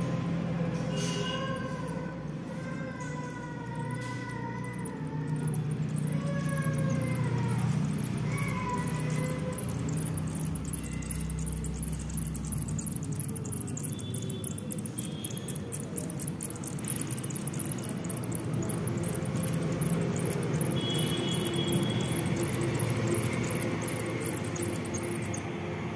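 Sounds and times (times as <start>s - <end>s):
fast high-pitched ticking: 0.4s - 25.9s
small electric motors whirring: 1.4s - 25.6s.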